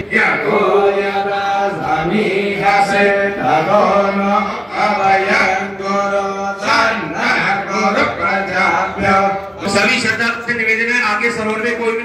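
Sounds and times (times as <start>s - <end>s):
voices chanting a devotional hymn: 0.0s - 12.0s.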